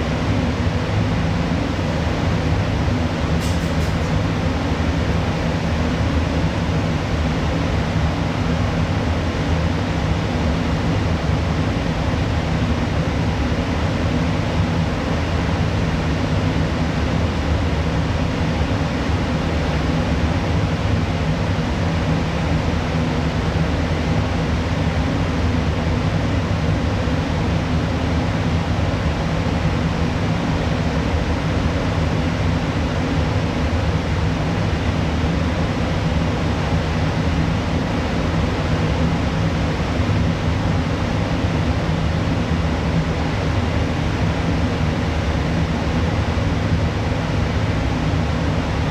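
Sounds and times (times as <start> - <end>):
ventilation air rush: 0.0 - 48.9.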